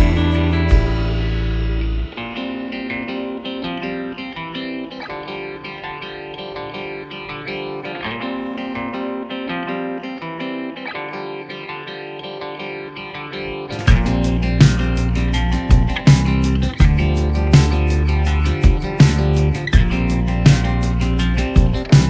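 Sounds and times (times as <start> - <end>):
plucked guitar melody: 0.0 - 22.0.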